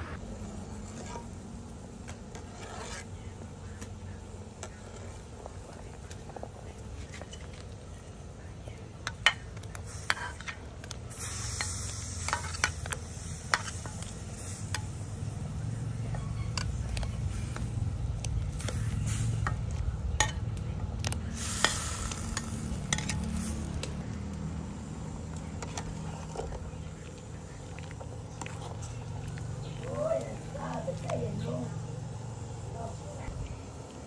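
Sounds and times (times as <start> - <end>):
pot boiling: 0.0 - 34.0.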